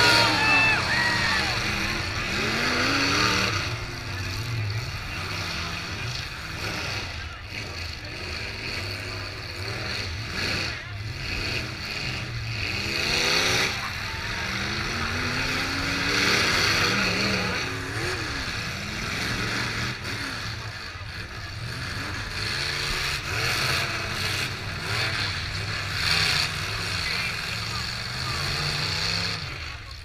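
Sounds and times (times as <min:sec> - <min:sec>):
car engines revving: 0:00.0 - 0:30.0.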